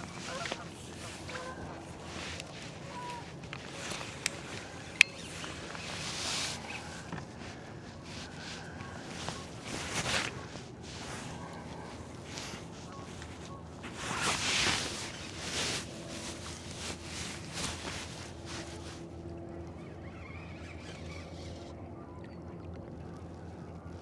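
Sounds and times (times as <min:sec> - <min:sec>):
boat motor idling: 0:00.0 - 0:24.0.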